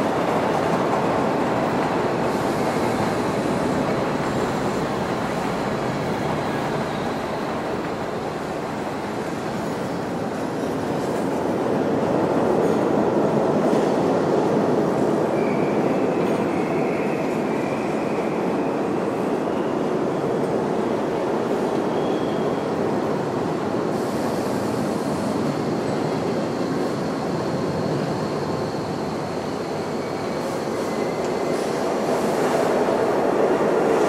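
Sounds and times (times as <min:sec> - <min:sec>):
subway train rumbling: 0:00.0 - 0:34.0.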